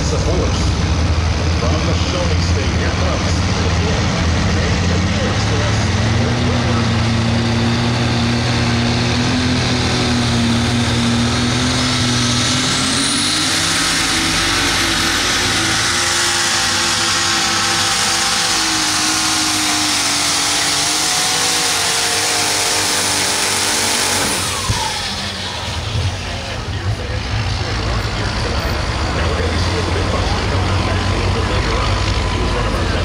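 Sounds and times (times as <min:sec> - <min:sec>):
tractor engine running flat out: 0:00.0 - 0:33.0.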